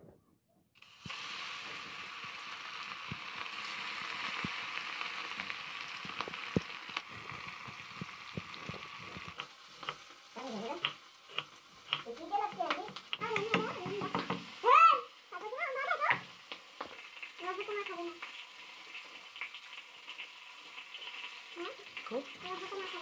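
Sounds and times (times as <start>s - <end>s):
oil popping and spitting: 0.8s - 14.5s, 16.1s - 22.2s
fish sizzling in hot oil: 0.8s - 23.0s.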